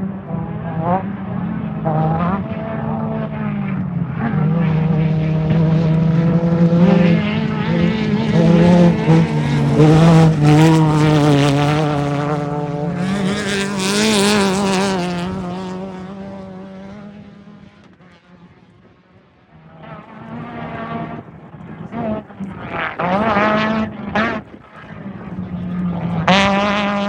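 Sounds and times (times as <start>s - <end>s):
race vehicle engine running loud: 0.0s - 27.0s.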